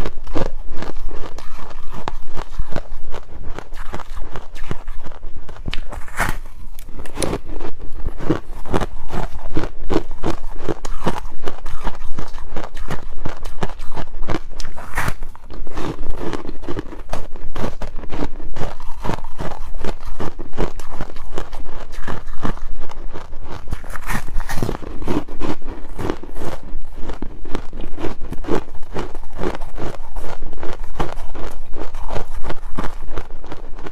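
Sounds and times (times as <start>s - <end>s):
ice being chewed: 0.0s - 33.9s.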